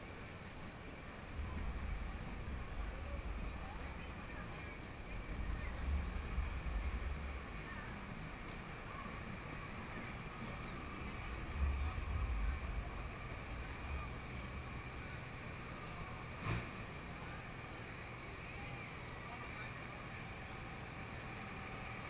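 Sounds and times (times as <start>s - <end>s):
faint high-pitched hum: 0.0s - 22.0s.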